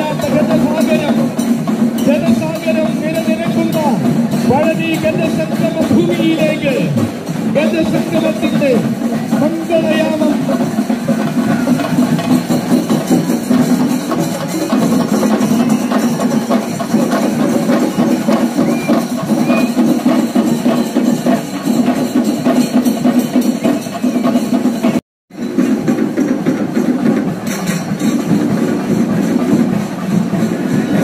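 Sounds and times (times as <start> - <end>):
fast percussion drumming: 0.0 - 31.0.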